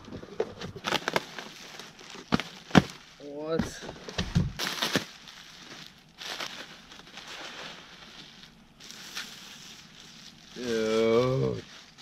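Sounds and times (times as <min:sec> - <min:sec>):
bubble wrap crinkling: 0:00.6 - 0:12.0.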